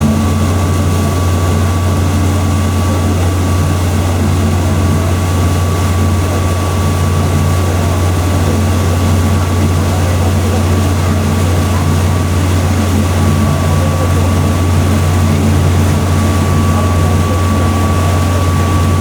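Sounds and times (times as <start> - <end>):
boat engine drone: 0.0 - 19.0
high engine whine: 0.0 - 19.0.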